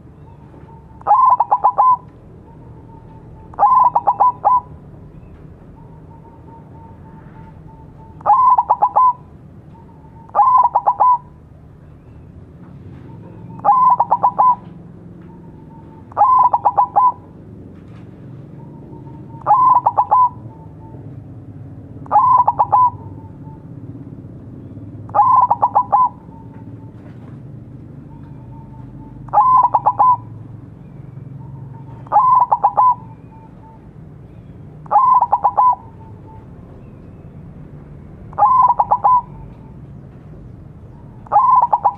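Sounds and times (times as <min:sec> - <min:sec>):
dove cooing: 0:00.0 - 0:11.5, 0:12.8 - 0:24.2, 0:25.1 - 0:36.7, 0:38.3 - 0:39.9, 0:40.9 - 0:41.9.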